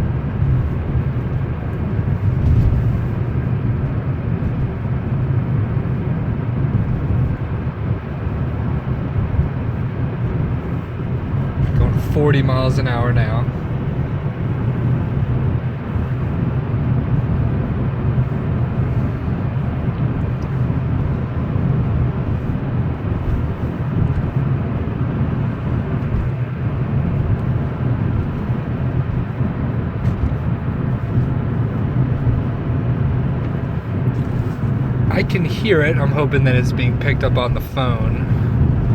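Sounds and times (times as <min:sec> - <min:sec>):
car engine and road noise: 0:00.0 - 0:38.9
faint engine ticking: 0:00.0 - 0:38.9.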